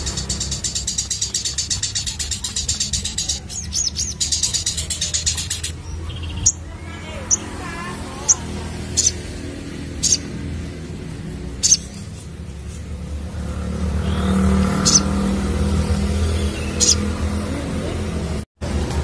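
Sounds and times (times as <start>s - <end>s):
bird chirping: 0.0s - 10.8s, 11.5s - 13.0s, 13.7s - 17.6s
vehicle engine humming: 0.0s - 19.0s.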